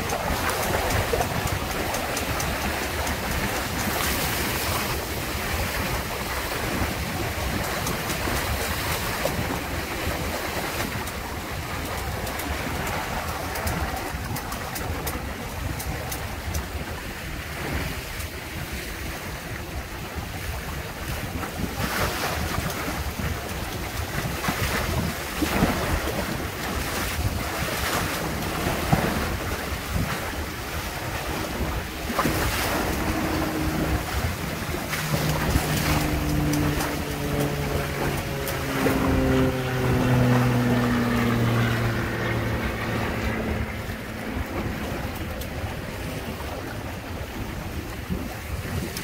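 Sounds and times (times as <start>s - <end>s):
water rushing along hulls: 0.0s - 49.0s
waves slapping hull: 0.0s - 49.0s
wind buffeting microphone: 0.0s - 49.0s.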